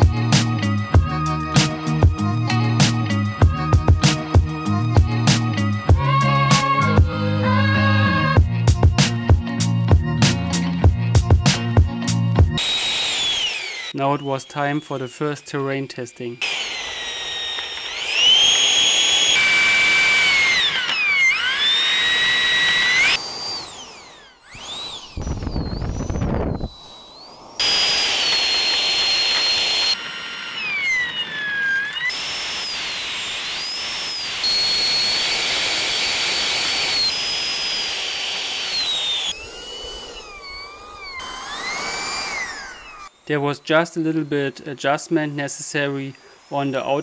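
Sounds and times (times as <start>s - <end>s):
electric ducted fan whining: 0.0s - 47.0s.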